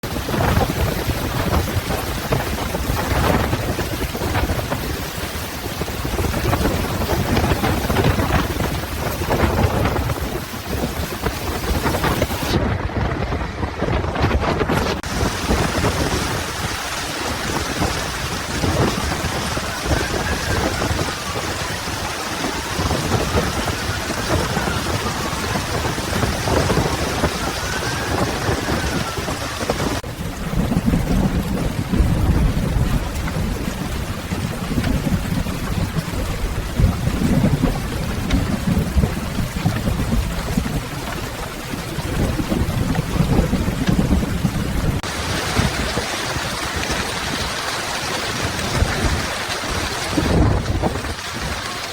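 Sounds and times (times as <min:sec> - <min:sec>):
heavy rain pouring: 0:00.0 - 0:51.9
thunder rolling: 0:00.0 - 0:51.9.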